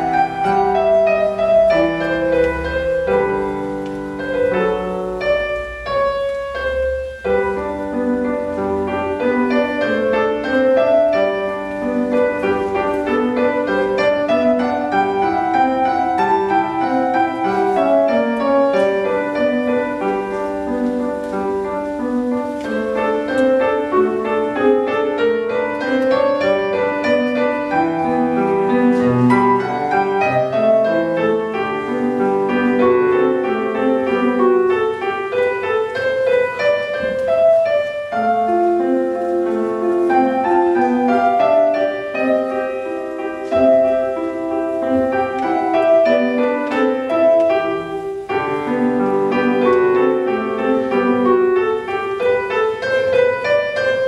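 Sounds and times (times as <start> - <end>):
grand piano playing fast runs: 0.0 - 54.0.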